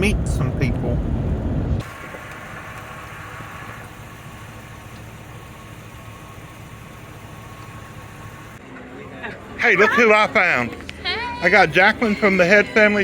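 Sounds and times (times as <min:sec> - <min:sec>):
car engine hum: 0:00.0 - 0:13.0
road noise inside car: 0:00.0 - 0:13.0.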